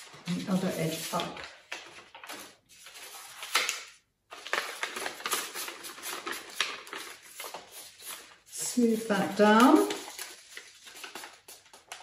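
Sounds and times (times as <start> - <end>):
foil wrapping paper crinkling: 0.0 - 12.0.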